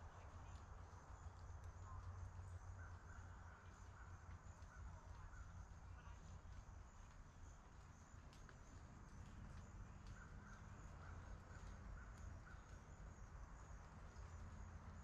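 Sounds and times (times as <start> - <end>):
low roadside rumble: 0.0 - 15.0.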